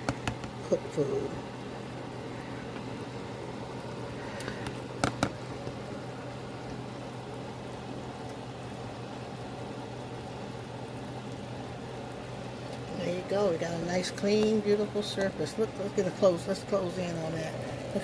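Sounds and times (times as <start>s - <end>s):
soup boiling in a pot: 0.0s - 18.0s
steady low hum: 0.0s - 18.0s.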